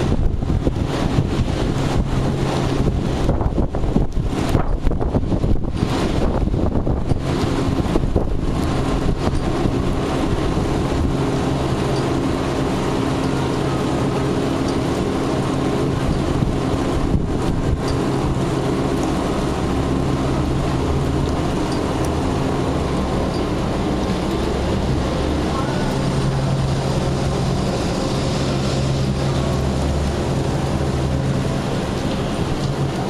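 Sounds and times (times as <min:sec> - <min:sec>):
machinery humming: 0:00.0 - 0:33.0
wind gusting over microphone: 0:00.0 - 0:33.0.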